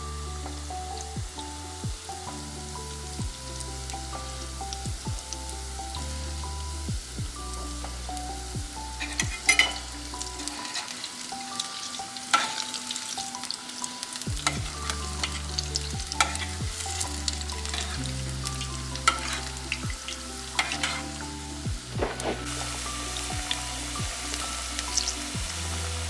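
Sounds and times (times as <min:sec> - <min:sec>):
food deep-frying in hot oil: 0:00.0 - 0:26.0
soft background music with bass: 0:00.0 - 0:26.0.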